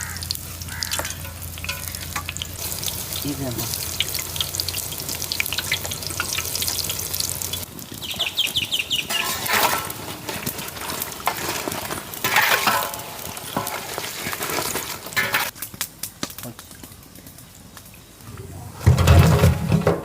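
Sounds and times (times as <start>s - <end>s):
oil sizzling with frying food: 0.0s - 19.8s.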